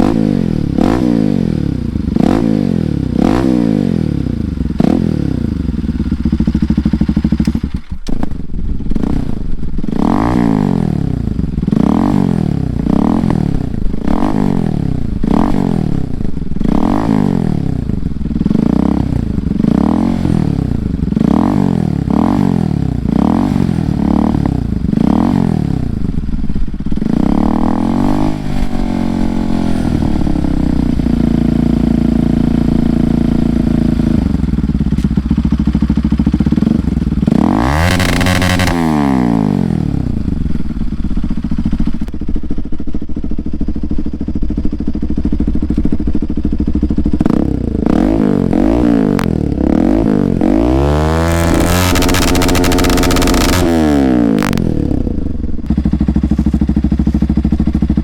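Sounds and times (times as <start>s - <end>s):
motorcycle engine revving and idling: 0.0s - 58.0s.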